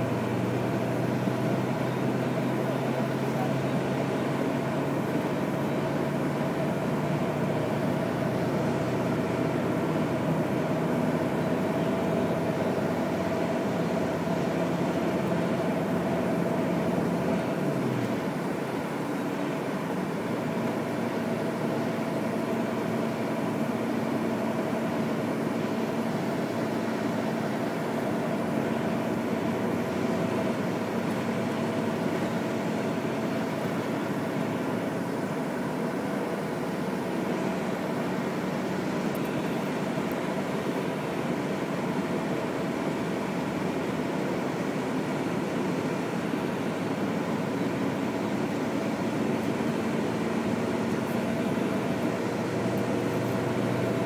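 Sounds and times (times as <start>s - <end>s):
vehicle engine and road drone: 0.0s - 54.0s.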